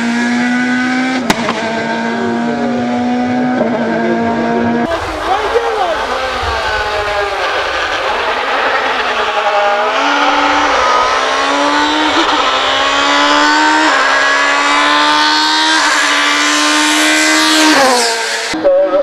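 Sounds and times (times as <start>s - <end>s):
racing car engine at full throttle: 0.0s - 19.0s
gear upshifts: 0.6s - 18.6s.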